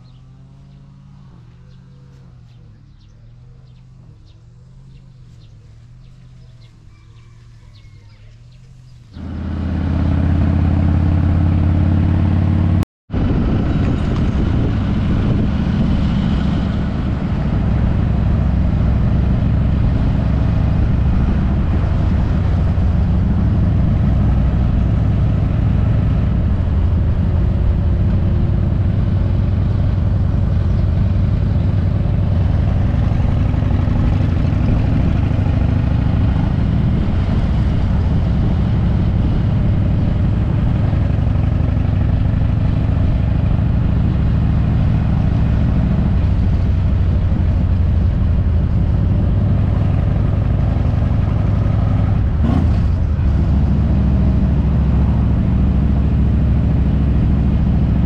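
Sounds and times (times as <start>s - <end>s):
motorcycle engine running: 0.0s - 58.0s
wind rushing over microphone: 8.8s - 58.0s.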